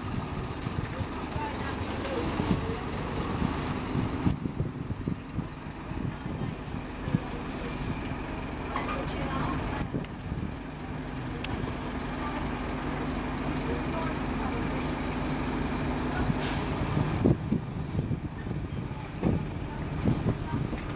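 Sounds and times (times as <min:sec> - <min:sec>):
diesel bus engine: 0:00.0 - 0:20.9.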